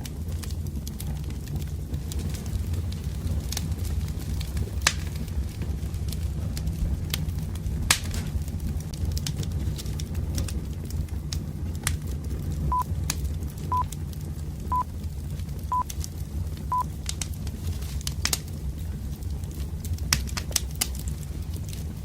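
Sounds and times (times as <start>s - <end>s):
campfire crackling and popping: 0.0s - 22.0s
low steady rumble: 0.0s - 22.0s.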